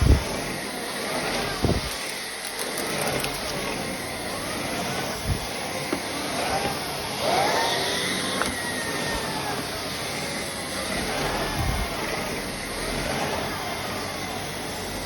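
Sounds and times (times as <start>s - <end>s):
vacuum cleaner whine: 0.0s - 15.0s.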